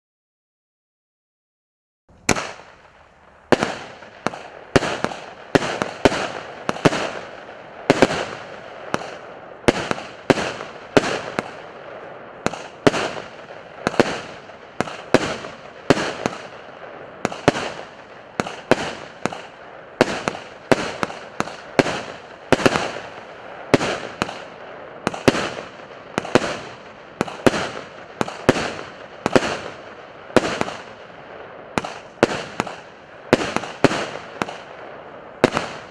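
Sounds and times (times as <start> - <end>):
firework cake sharp bangs: 2.1 - 35.9.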